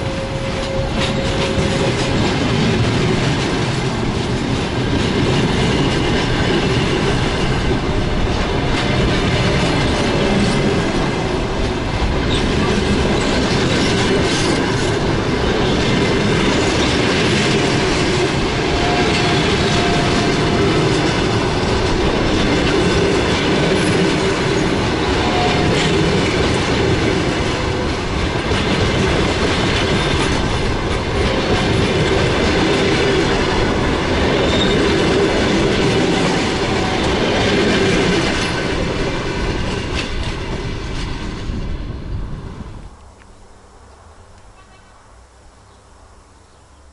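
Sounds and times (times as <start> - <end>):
train wheels clattering over rail joints: 0.0 - 41.6.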